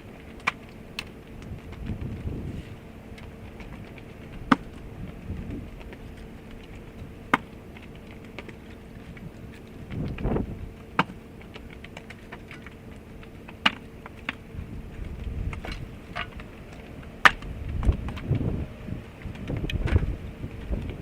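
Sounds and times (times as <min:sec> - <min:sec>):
faint steady hum: 0:00.0 - 0:21.0
firewood clacking on pile: 0:00.0 - 0:21.0.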